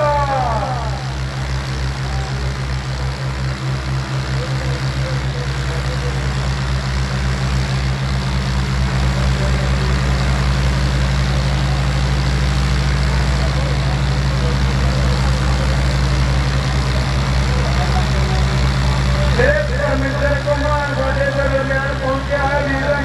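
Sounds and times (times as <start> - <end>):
tractor diesel engine throbbing: 0.0 - 23.0.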